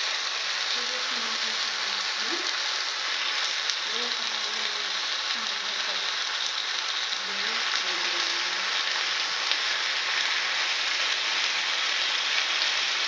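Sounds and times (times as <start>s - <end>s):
fish sizzling on grill pan: 0.0s - 13.0s.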